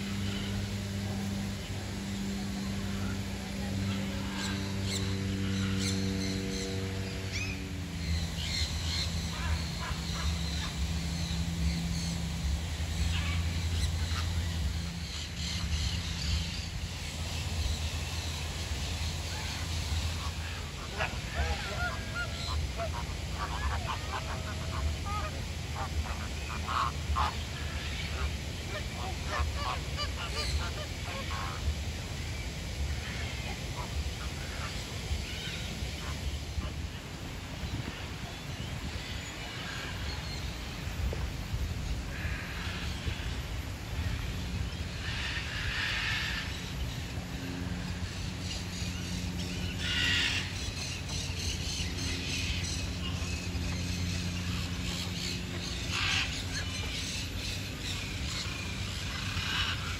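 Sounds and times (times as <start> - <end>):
low steady hum: 0.0 - 59.9
flamingos honking: 0.1 - 16.8, 17.7 - 31.8, 41.8 - 59.9.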